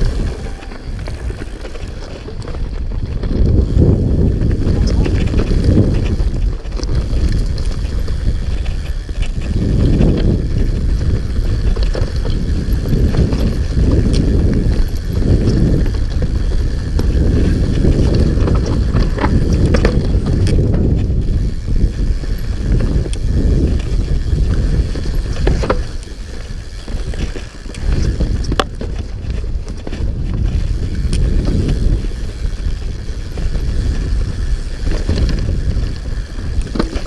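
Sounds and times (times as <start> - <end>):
bike knocks and rattles: 0.0 - 37.0
bike tyres rumbling over dirt: 0.0 - 37.0.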